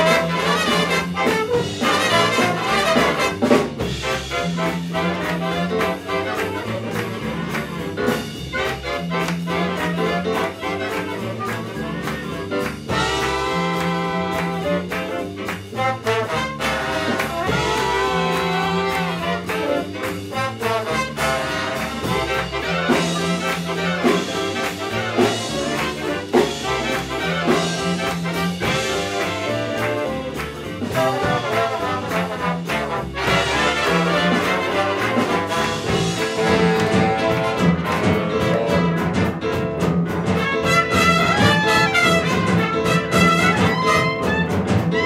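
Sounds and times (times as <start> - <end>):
jazz big band playing swing: 0.0 - 45.0.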